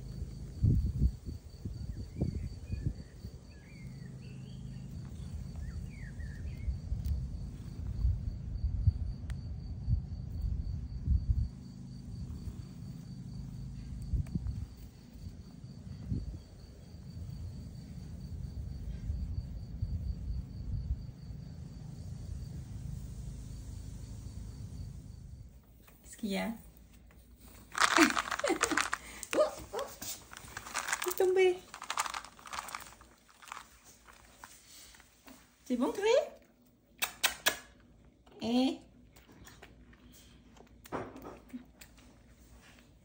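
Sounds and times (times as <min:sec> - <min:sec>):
insect trill: 0:00.0 - 0:36.3.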